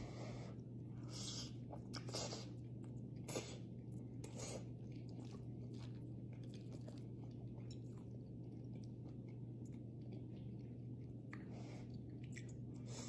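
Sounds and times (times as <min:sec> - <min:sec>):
low steady hum: 0:00.0 - 0:13.0
person chewing food: 0:00.0 - 0:13.0.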